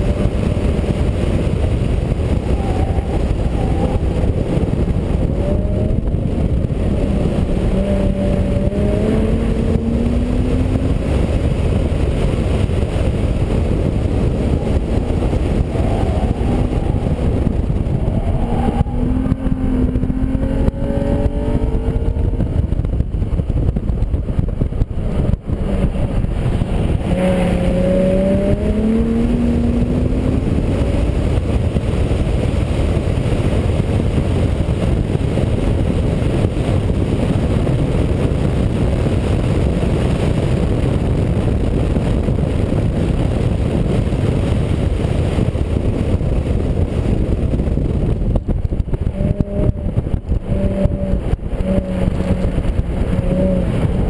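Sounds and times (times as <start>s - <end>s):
car engine running hard: 0.0s - 54.0s
wind and road noise: 0.0s - 54.0s.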